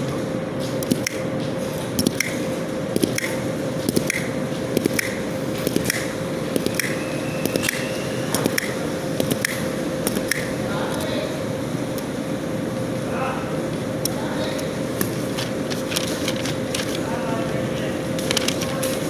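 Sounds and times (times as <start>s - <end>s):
steady motor hum: 0.0s - 19.0s.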